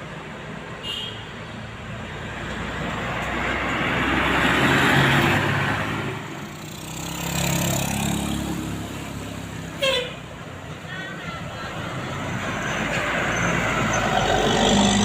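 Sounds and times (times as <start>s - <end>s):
vehicles passing close by: 0.0s - 15.0s.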